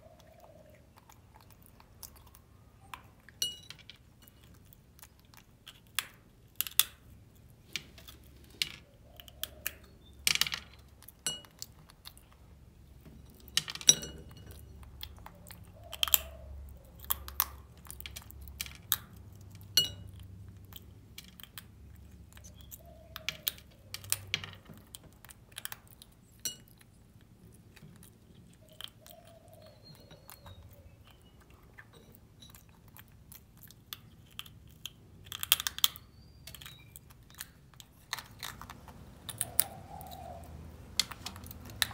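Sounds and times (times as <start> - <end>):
quiet chewing: 0.0 - 10.1, 14.3 - 41.9.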